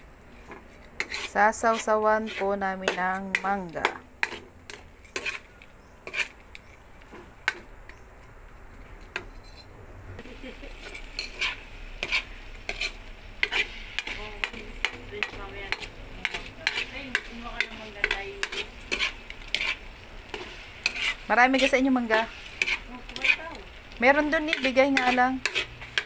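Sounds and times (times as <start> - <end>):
frying sizzle: 0.0 - 9.4, 10.1 - 26.0
metal spatula scraping a wok: 0.3 - 7.7, 9.1 - 26.0.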